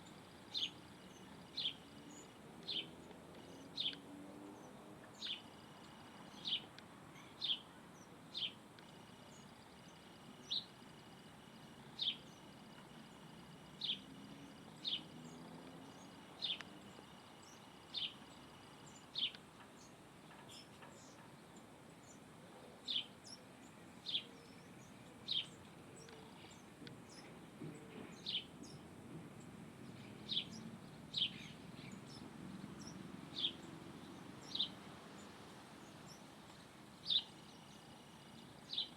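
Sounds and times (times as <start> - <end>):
bird chirping: 0.0 - 38.9
faint low background noise: 0.0 - 38.9.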